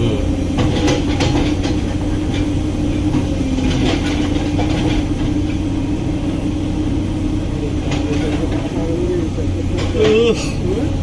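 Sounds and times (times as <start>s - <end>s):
excavator engine droning: 0.0s - 11.0s.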